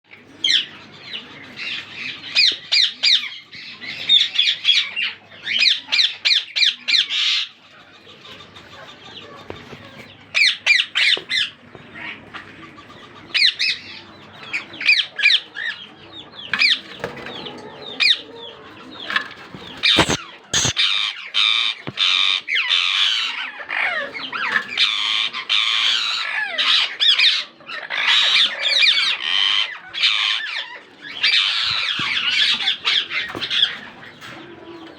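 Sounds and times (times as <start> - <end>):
parakeets squawking: 0.4 - 15.8, 16.6 - 34.9.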